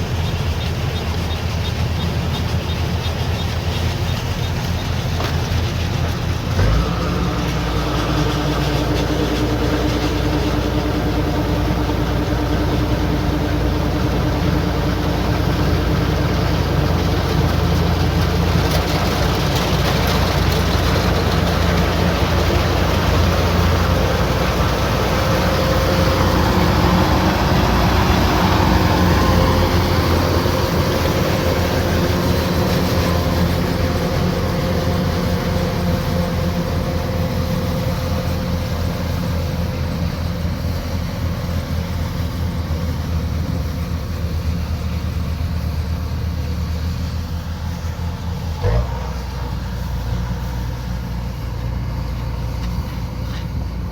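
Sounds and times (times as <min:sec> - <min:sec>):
combine harvester drone: 0:00.0 - 0:53.9.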